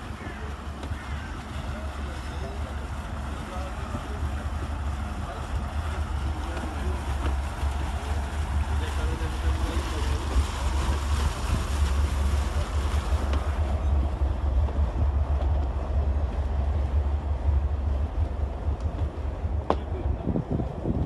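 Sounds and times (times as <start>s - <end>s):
wind buffeting microphone: 2.0s - 21.0s.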